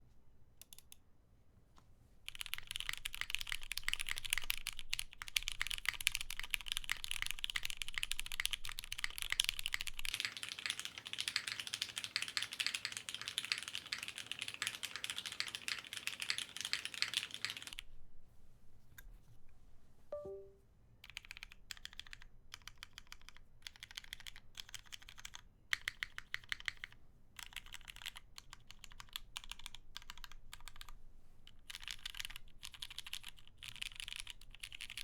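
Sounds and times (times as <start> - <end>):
fast typing on mechanical keyboard: 2.3 - 17.8, 21.0 - 35.0.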